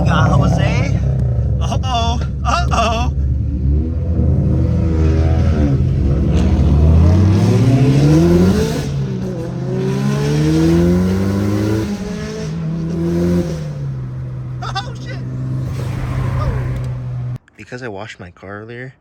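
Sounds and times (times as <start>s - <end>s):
car engine accelerating hard: 0.0s - 17.4s.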